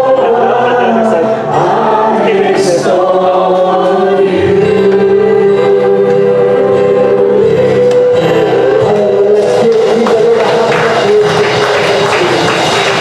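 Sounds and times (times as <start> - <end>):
congregation singing worship song: 0.0 - 13.0
worship band instruments: 0.0 - 13.0.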